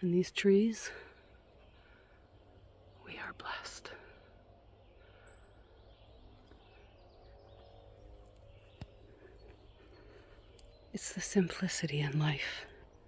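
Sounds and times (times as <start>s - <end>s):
distant birds chirping: 0.0s - 13.0s.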